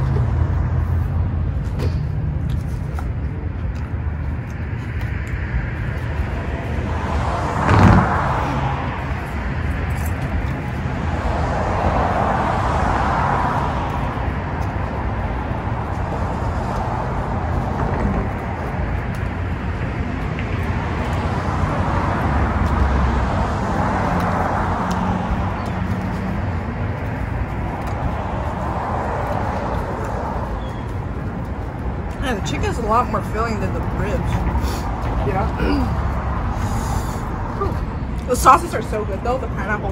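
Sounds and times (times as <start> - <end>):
passing cars hum: 0.0 - 39.9.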